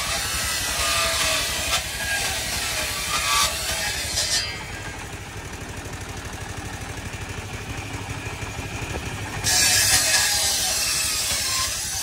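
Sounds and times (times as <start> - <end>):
saw blade cutting wood: 0.0 - 7.9, 8.8 - 12.0
table saw engine chugging: 0.0 - 12.0.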